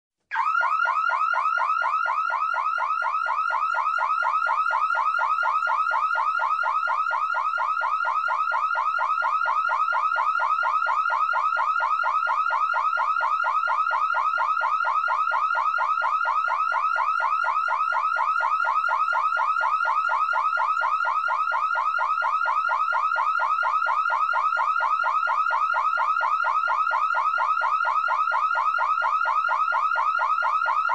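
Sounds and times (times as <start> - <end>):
alarm siren warbling: 0.3 - 30.9.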